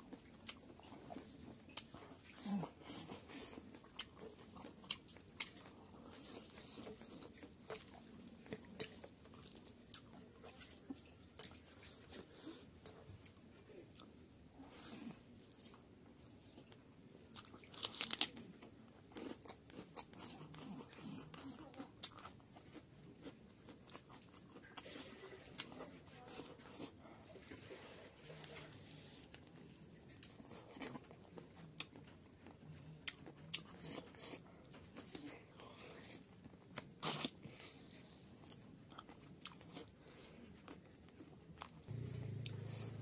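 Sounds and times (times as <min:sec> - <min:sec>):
man chewing food: 0:00.0 - 0:43.0.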